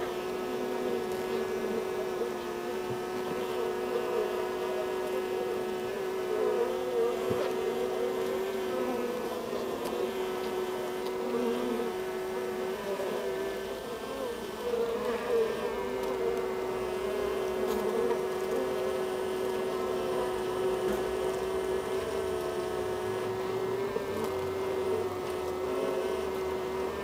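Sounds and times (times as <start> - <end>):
bees humming in hive: 0.0 - 27.0.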